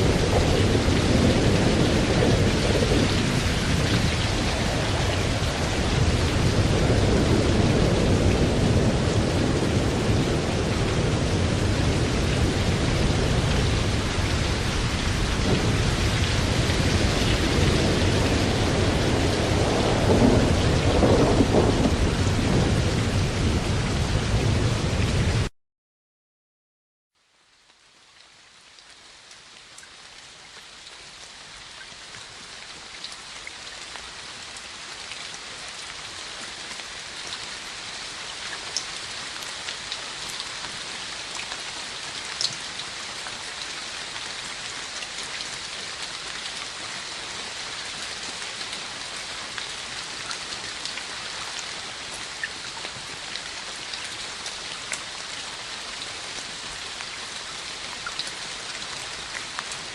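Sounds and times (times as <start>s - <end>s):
rain on a hard surface: 0.0s - 25.5s, 27.2s - 59.9s.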